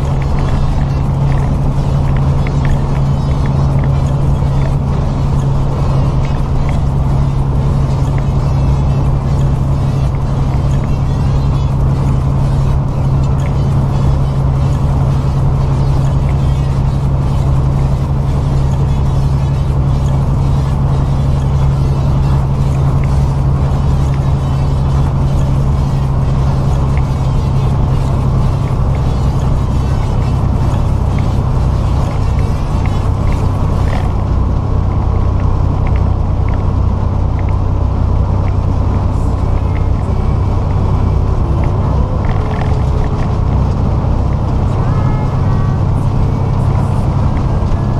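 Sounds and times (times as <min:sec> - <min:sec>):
truck engine and road drone: 0:00.0 - 0:47.9.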